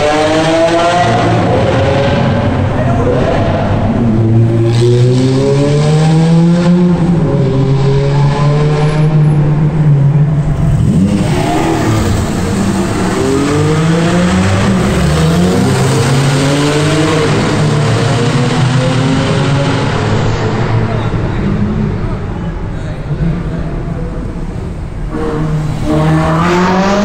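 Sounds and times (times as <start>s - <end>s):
sports car engines accelerating: 0.0s - 27.0s.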